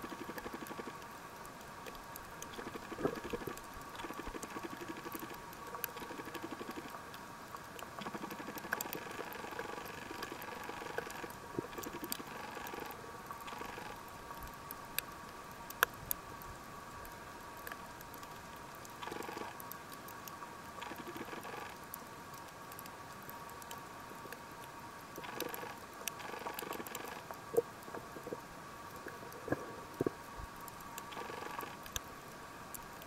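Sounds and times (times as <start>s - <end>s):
faint steady hum: 0.0s - 33.0s
underwater clicking crackle: 0.0s - 33.0s.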